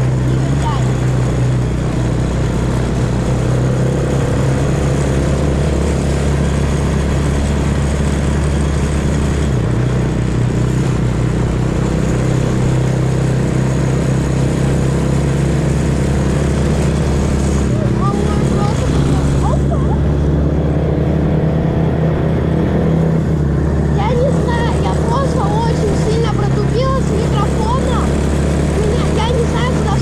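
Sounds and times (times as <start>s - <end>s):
off-road vehicle engine running: 0.0s - 30.0s.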